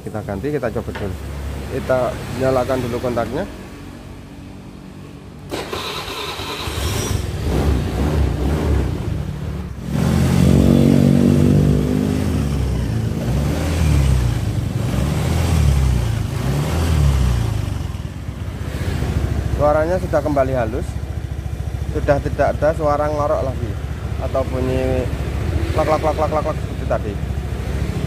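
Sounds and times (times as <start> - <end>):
scooter engine starting and revving: 5.4 - 28.0.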